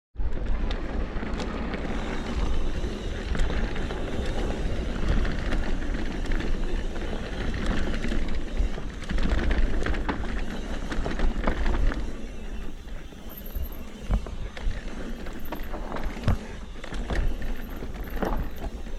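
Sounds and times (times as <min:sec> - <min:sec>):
bike tyre noise: 0:00.2 - 0:18.9
bike rattling clicks and knocks: 0:00.3 - 0:18.9.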